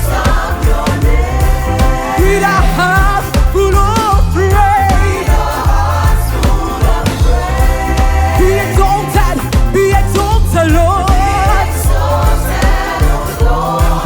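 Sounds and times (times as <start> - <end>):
live gospel band music: 0.0 - 14.0.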